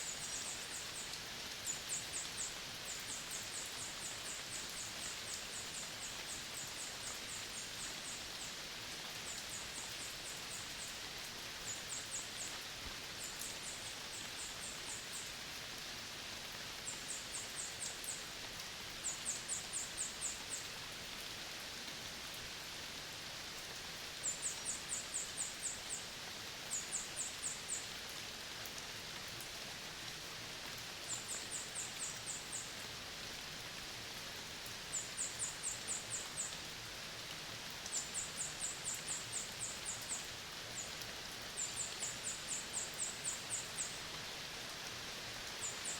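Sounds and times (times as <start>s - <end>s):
forest ambience hiss: 0.0s - 45.9s.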